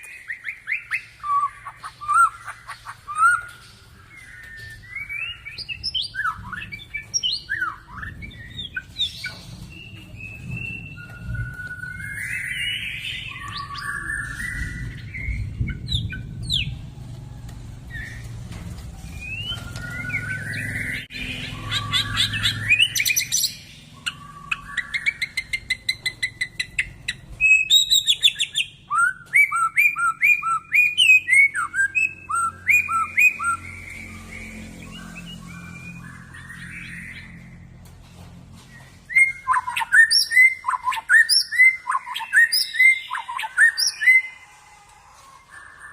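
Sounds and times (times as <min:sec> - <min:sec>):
bird singing whistles and trills: 0:00.0 - 0:16.8, 0:19.0 - 0:37.5, 0:38.7 - 0:44.5.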